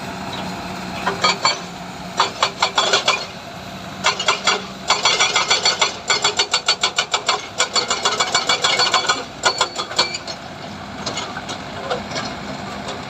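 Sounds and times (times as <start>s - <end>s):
machinery engine hum: 0.0s - 13.0s.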